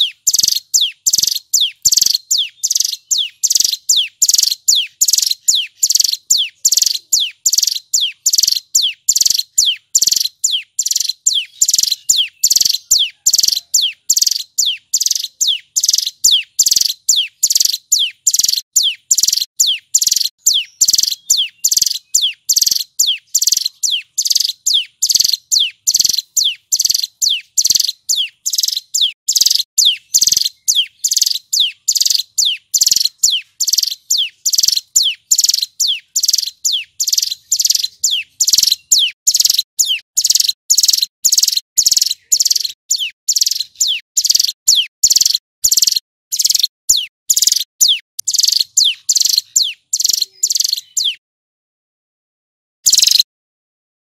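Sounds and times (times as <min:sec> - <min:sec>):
bird singing sharp high notes: 0:00.0 - 0:51.2, 0:52.8 - 0:53.3.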